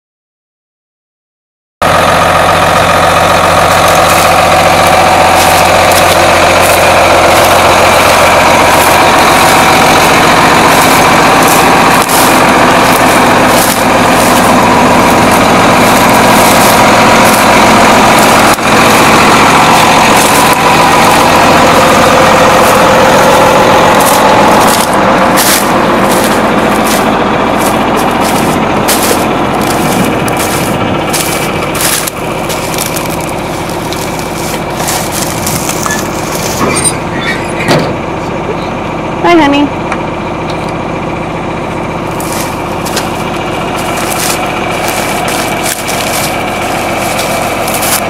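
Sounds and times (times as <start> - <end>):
tractor diesel engine running: 1.8 - 48.0.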